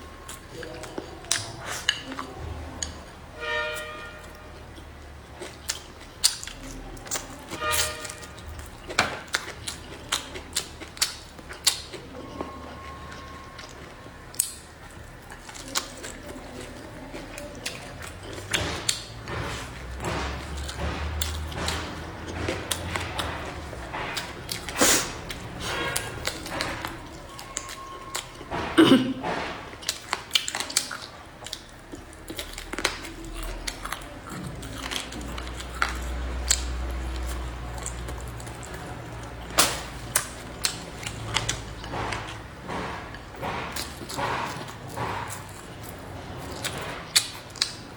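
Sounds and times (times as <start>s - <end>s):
person chewing: 0.0s - 47.9s.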